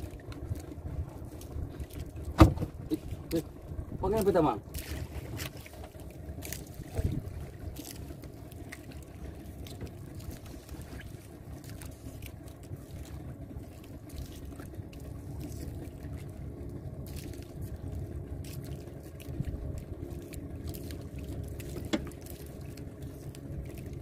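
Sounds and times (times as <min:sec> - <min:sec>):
boat engine running: 0:00.0 - 0:24.0
water trickling and lapping: 0:00.0 - 0:24.0.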